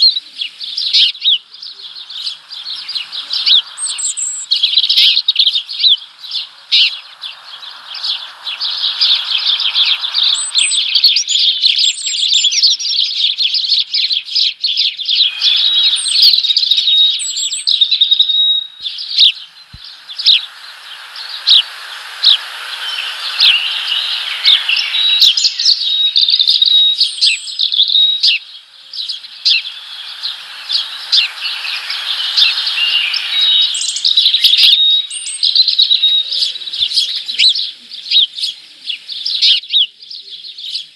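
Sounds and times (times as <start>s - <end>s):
small birds chirping: 0.0s - 40.9s
soft hiss-like noise: 0.0s - 40.9s.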